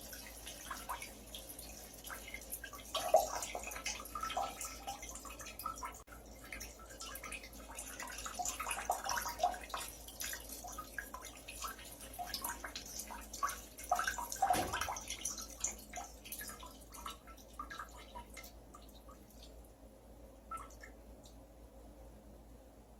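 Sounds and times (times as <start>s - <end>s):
urine splashing into toilet water: 0.0s - 19.6s.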